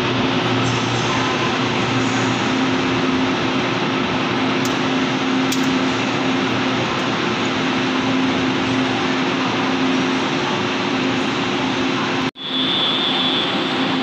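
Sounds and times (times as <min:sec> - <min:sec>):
train rushing noise: 0:00.0 - 0:14.0.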